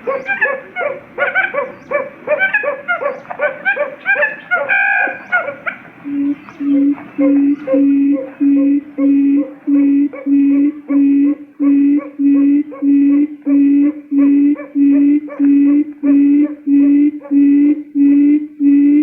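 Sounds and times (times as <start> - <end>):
quail lure call: 0.0 - 17.0.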